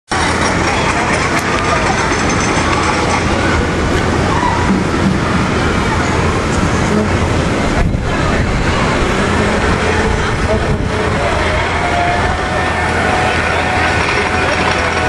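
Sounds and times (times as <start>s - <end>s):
roller coaster rumbling on track: 0.1s - 15.0s.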